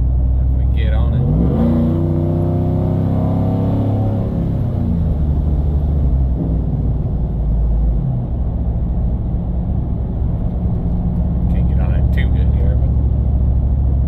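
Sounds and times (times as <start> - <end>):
engine and exhaust droning: 0.0 - 14.0.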